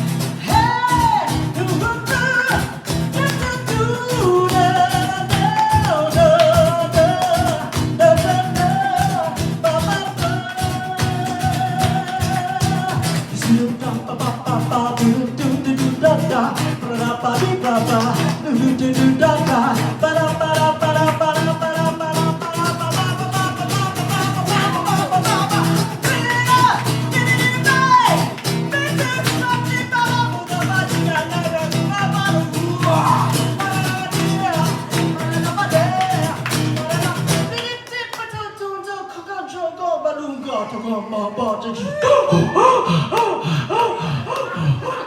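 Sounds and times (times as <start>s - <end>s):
live guitar playing: 0.0s - 37.6s
person singing: 0.3s - 45.0s.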